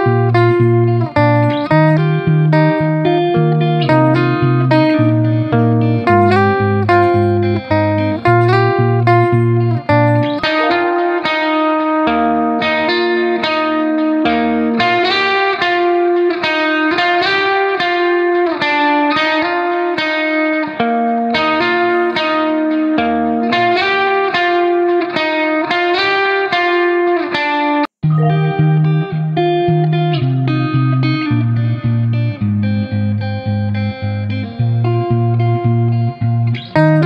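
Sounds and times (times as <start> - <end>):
guitar playing plucked notes: 0.0 - 37.0.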